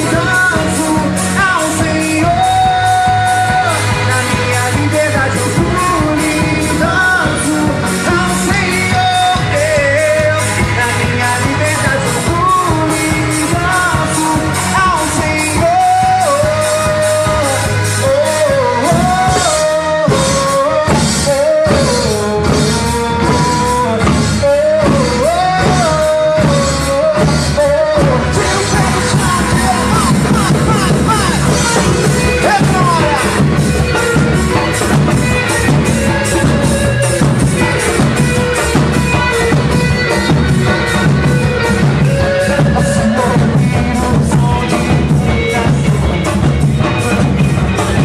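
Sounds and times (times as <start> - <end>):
band playing drums and bass: 0.0 - 48.0
person singing melody: 0.0 - 48.0.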